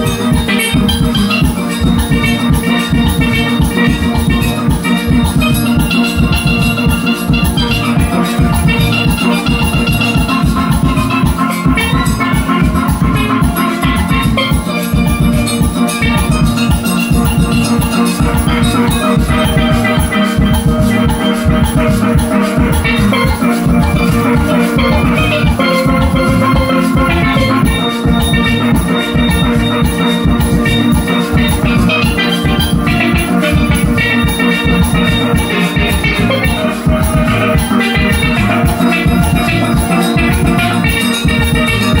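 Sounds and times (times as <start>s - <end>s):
drums keeping a beat: 0.0s - 42.0s
steel pan band playing: 0.0s - 42.0s.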